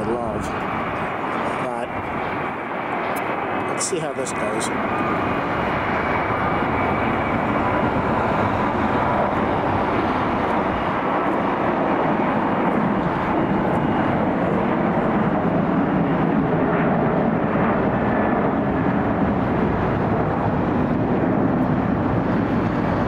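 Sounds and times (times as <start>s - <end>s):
jet airliner engines: 0.0s - 23.0s.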